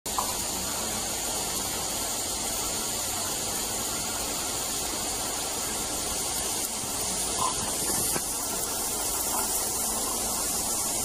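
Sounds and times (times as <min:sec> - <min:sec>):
hiss of spraying water: 0:00.1 - 0:11.0.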